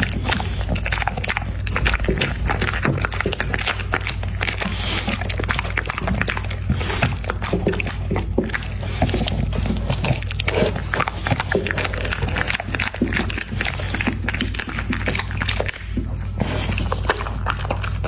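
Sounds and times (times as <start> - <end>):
dog chewing food: 0.0 - 18.0.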